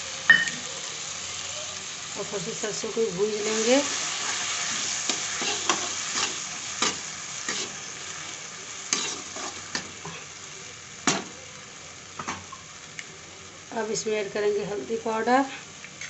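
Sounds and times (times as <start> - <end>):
paste sizzling in hot oil: 0.0 - 16.0.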